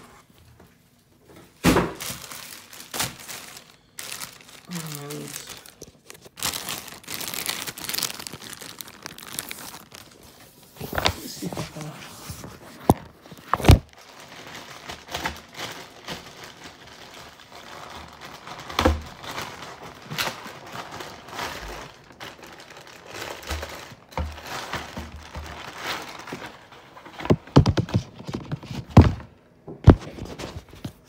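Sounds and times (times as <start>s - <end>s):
packaging rustling and crinkling: 1.4s - 31.0s.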